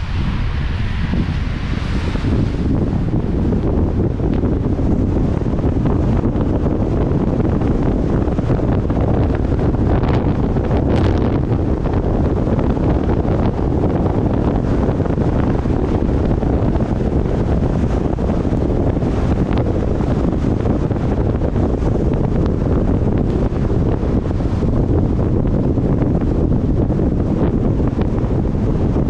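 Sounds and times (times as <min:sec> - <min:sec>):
car road noise: 0:00.0 - 0:29.0
wind rushing over microphone: 0:00.0 - 0:29.0.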